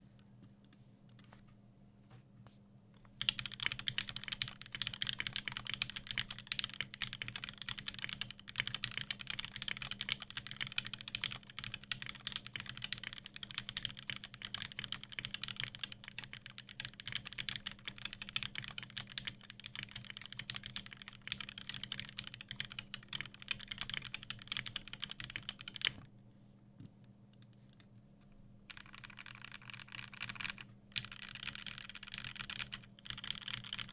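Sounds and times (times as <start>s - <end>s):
mechanical keyboard typing: 3.2s - 26.0s, 28.7s - 33.9s.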